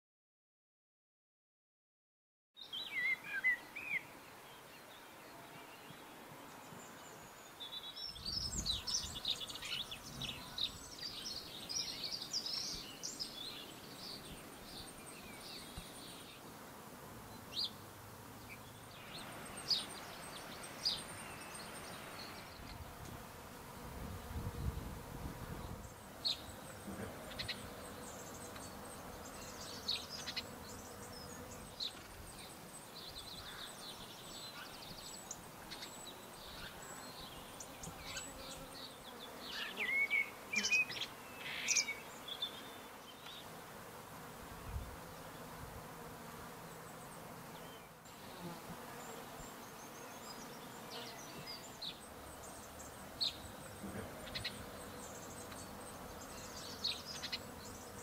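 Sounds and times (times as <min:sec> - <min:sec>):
birds singing: 0:02.6 - 0:16.4, 0:18.4 - 0:22.8, 0:25.5 - 0:43.5, 0:46.7 - 0:58.0
faint buzz of insects: 0:02.6 - 0:58.0.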